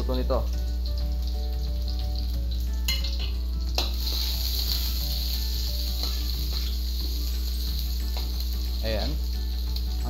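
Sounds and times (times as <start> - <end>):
onion and garlic sizzling in oil: 0.0 - 10.0.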